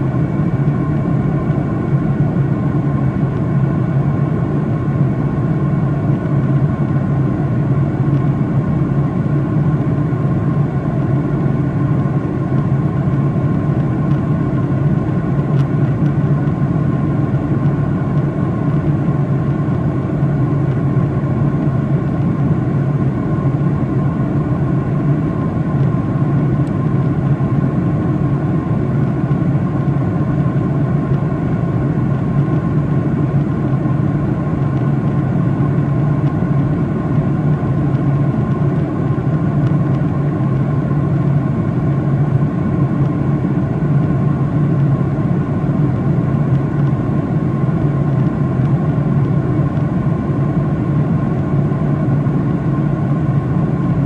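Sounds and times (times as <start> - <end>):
jet engine drone: 0.0 - 54.0.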